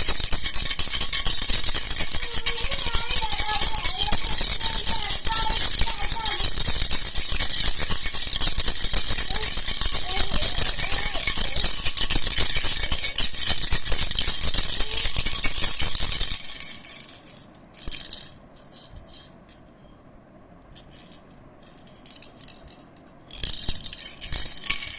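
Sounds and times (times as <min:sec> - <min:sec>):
baby rattle bells jingling: 0:00.0 - 0:19.4, 0:20.9 - 0:24.9.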